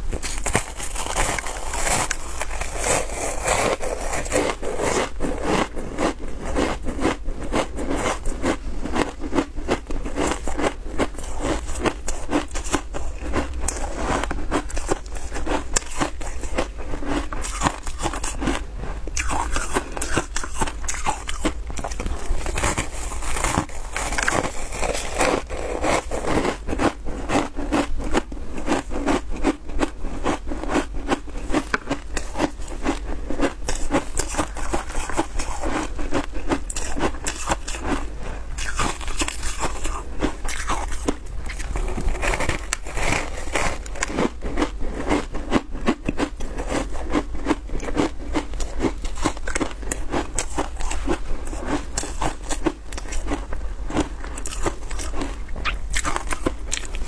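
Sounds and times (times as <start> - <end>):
crunchy chewing of ice: 0.0 - 57.0.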